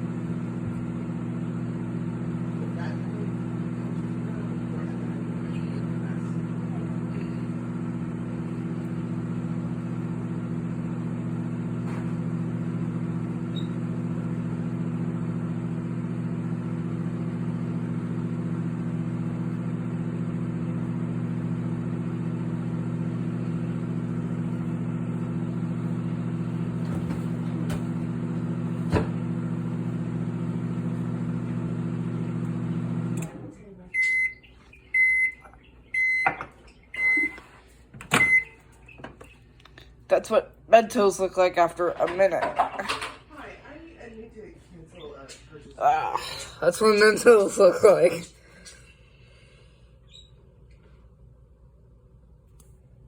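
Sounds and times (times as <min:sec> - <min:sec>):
microwave oven humming: 0:00.0 - 0:45.2.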